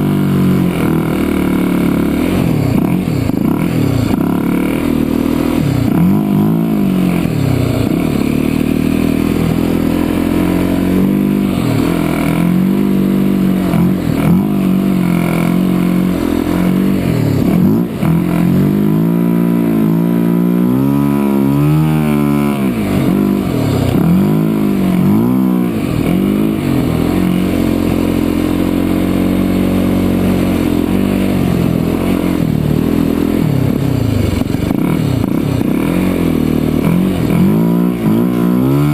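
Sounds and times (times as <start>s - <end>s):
off-road motorbike engine revving: 0.0s - 38.9s.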